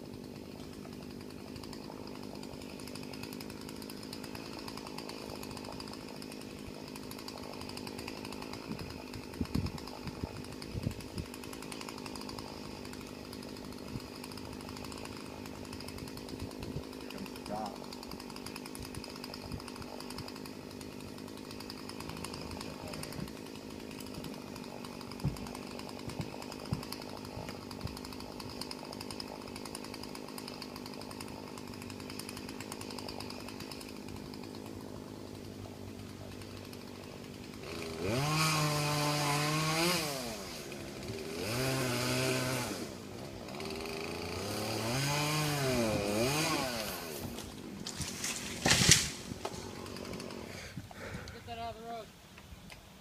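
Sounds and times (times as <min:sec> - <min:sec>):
chainsaw running and revving: 0:00.0 - 0:52.1.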